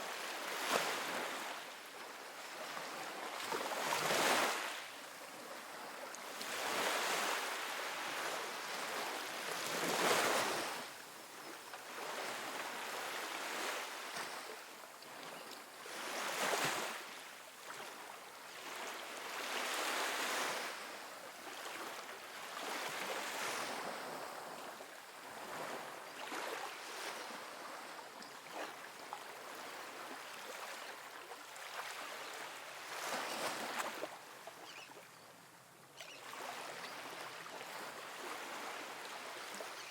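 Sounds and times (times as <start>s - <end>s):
small waves washing onto beach: 0.0s - 39.9s.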